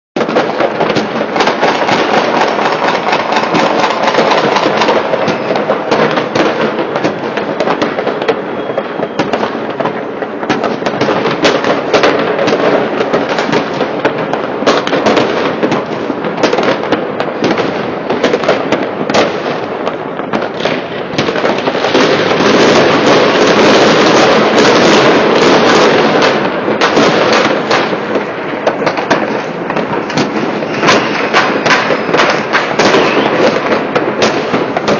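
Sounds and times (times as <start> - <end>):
fireworks crackling and banging: 0.2 - 34.9.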